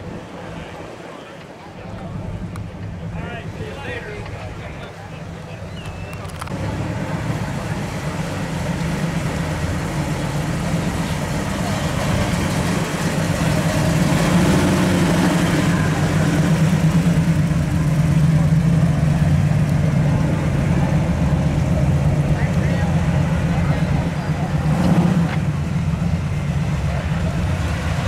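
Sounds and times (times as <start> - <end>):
car engine idling: 1.9 - 28.0.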